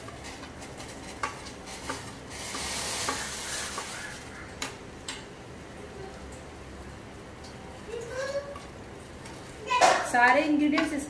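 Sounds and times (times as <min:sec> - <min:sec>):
water boiling in saucepan: 0:00.0 - 0:11.0.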